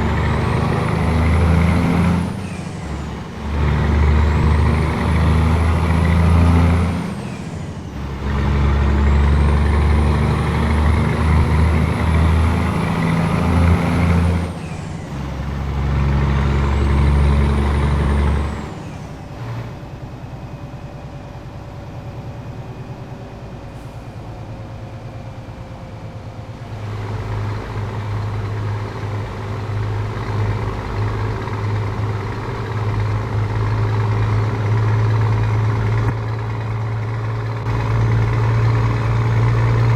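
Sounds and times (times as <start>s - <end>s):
truck engine revving: 0.0s - 20.1s, 22.2s - 39.9s
truck engine idling: 0.0s - 39.9s.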